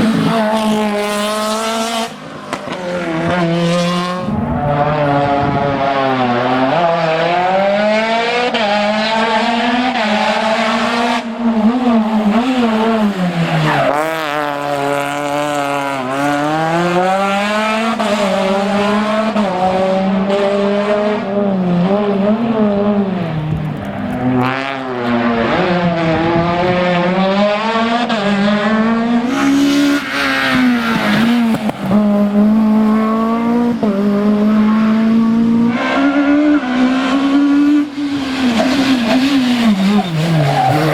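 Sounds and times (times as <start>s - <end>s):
rally car engine at high revs: 0.0s - 40.9s.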